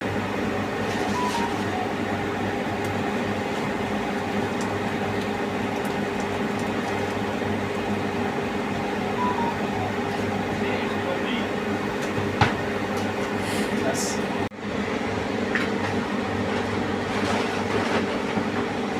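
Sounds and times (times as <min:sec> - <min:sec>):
low mechanical hum: 0:00.0 - 0:18.9.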